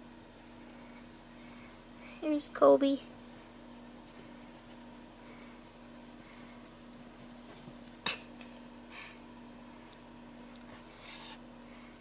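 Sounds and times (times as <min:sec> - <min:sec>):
puppies rustling on blanket: 0:00.0 - 0:12.0
steady low hum: 0:00.0 - 0:12.0.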